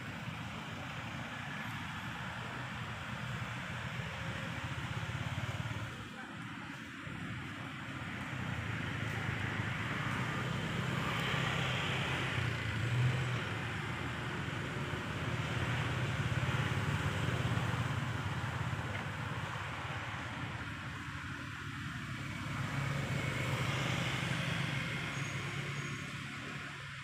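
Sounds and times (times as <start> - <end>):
vehicle engine: 0.0 - 27.0.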